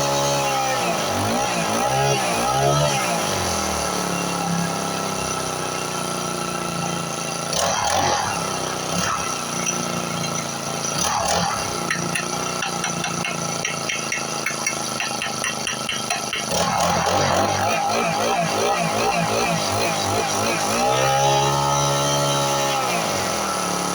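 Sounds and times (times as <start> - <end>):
grass cutter engine revving and running: 0.0 - 23.9.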